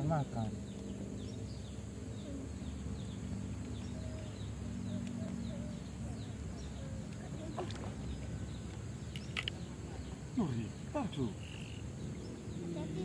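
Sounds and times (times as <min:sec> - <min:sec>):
birds chirping: 0:00.0 - 0:13.0
wavering bird calls: 0:00.6 - 0:13.0.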